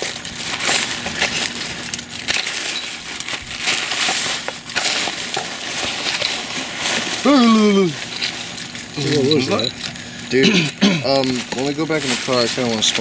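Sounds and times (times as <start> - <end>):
trash rustling and crunching: 0.0 - 13.0.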